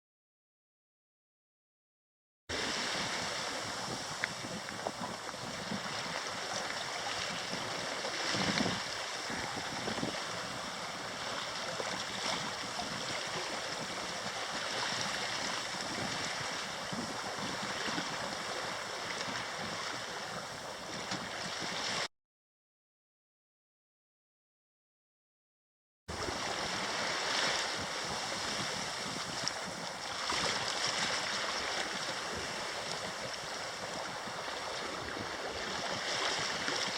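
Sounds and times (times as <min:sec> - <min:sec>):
water rushing along a hull: 0:02.5 - 0:22.1, 0:26.1 - 0:36.9
wind on microphone: 0:02.5 - 0:22.1, 0:26.1 - 0:36.9.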